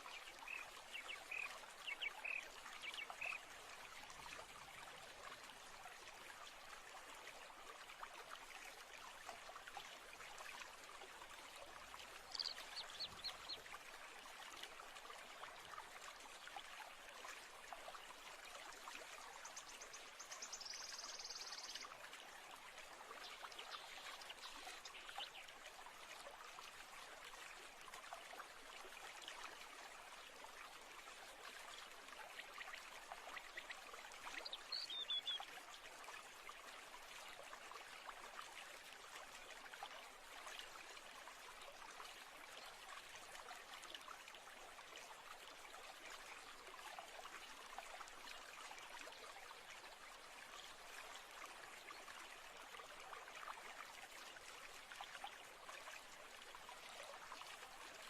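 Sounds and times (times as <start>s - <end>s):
small stream babbling: 0.0s - 58.0s.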